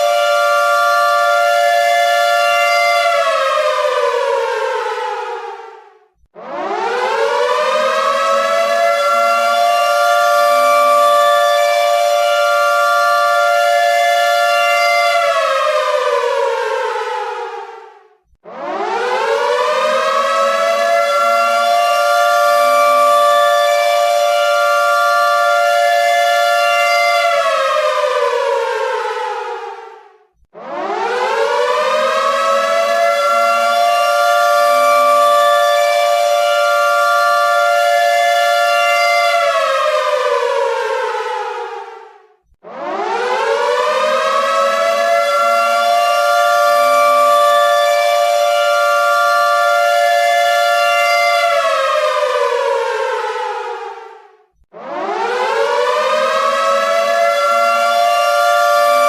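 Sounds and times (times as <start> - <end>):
air raid siren wailing: 0.0 - 59.0.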